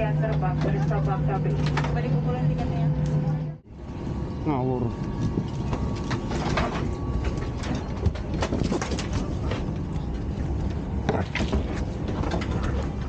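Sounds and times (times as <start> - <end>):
cabin air hum: 0.0 - 13.0.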